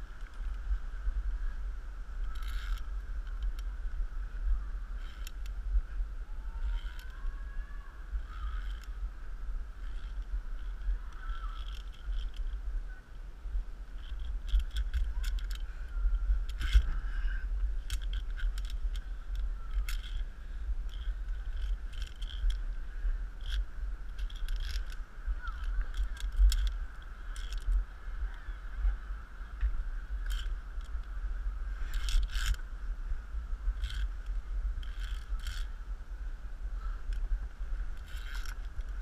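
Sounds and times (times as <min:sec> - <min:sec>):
steady high hum: 0:00.0 - 0:39.0
wind rumble on microphone: 0:00.0 - 0:39.0.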